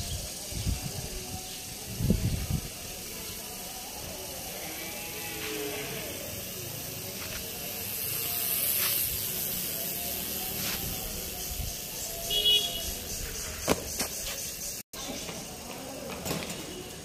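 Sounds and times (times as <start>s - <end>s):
faint voices: 0.0s - 13.6s
outdoor background hiss: 0.0s - 17.0s.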